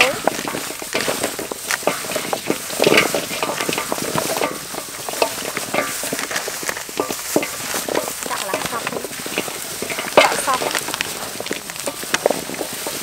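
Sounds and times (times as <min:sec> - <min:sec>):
chicken feet clicking in metal basin: 0:00.0 - 0:13.0.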